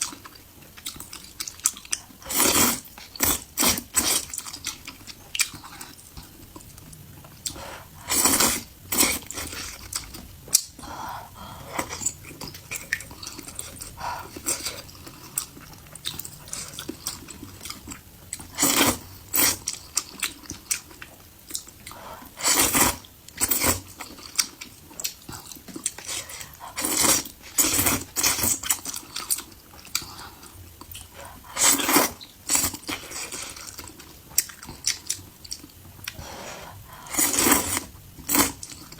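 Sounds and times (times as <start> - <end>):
wet chewing and biting: 0.0 - 36.2.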